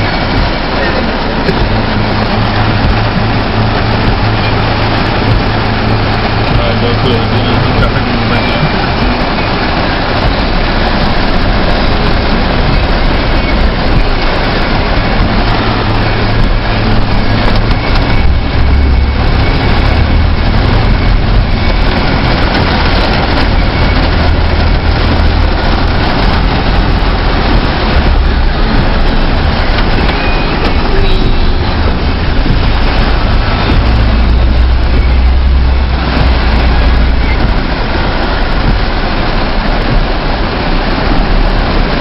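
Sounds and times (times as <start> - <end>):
car engine rumble: 0.0 - 42.0
rain and water rushing: 0.0 - 42.0.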